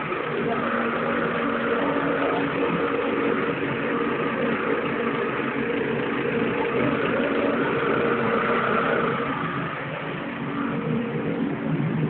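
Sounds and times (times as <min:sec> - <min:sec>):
mini-bike engine idling: 0:00.0 - 0:12.0.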